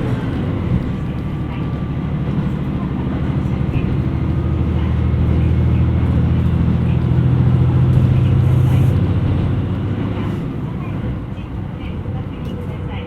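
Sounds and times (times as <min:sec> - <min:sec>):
diesel railcar engine droning: 0:00.0 - 0:13.0.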